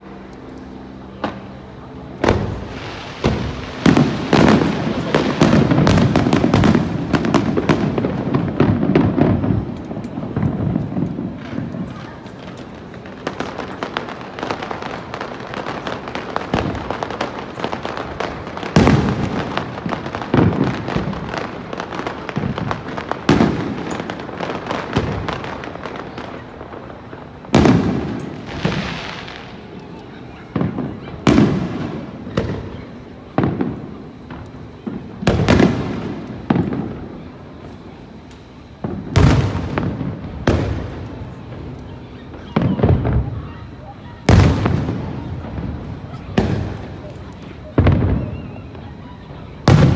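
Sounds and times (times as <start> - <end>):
crackling firework burst: 0.1 - 49.9
firework shells booming: 1.1 - 49.9.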